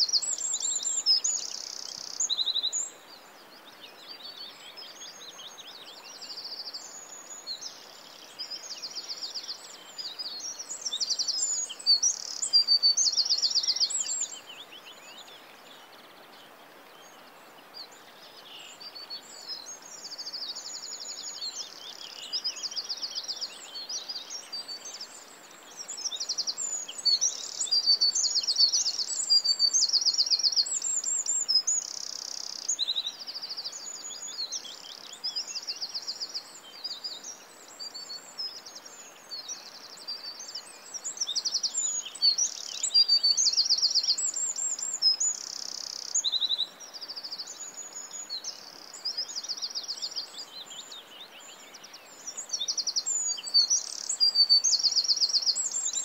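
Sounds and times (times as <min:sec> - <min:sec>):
birds singing trills and chirps: 0:00.0 - 0:56.0
soft steady background hiss: 0:00.0 - 0:56.0.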